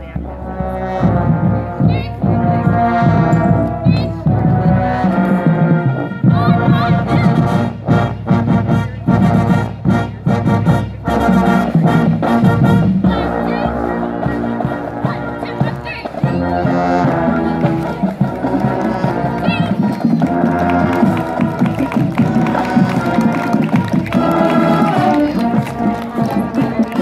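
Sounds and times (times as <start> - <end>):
marching band brass tune: 0.0 - 27.0.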